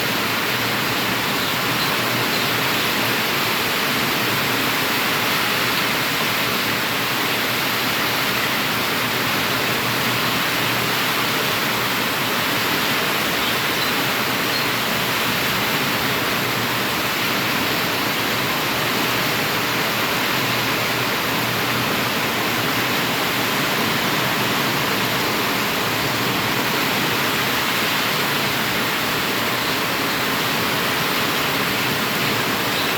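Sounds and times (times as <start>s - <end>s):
steady rain hiss: 0.0s - 32.9s.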